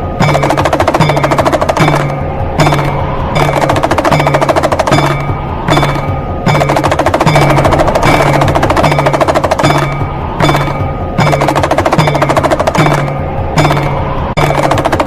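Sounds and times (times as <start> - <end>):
pellet drum rattling rolls: 0.2 - 15.0.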